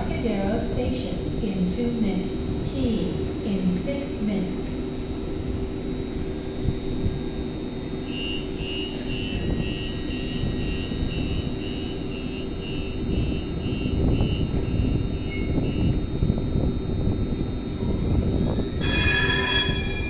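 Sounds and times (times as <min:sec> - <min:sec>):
train equipment hum: 0:00.0 - 0:20.0
rapid high warning beeps: 0:00.4 - 0:20.0.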